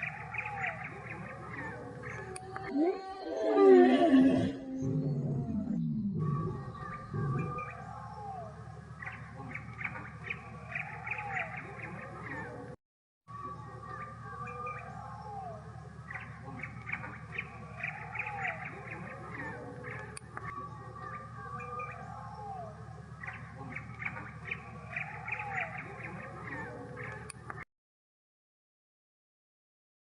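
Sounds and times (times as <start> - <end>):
birds chirping and squawking: 0.0 - 12.7, 13.3 - 27.6.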